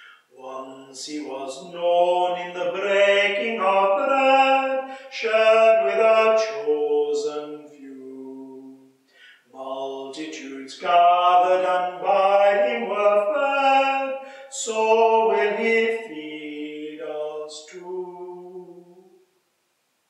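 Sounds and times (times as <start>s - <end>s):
unaccompanied hymn singing: 0.0s - 19.3s.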